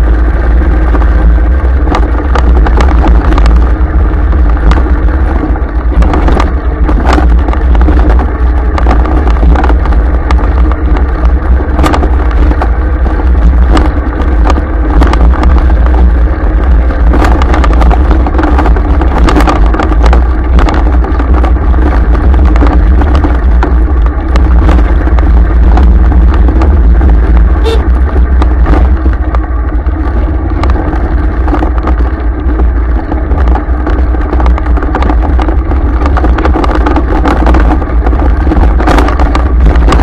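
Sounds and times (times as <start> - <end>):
vehicle engine and road rumble: 0.0 - 40.0
knocks and rattles: 1.7 - 40.0.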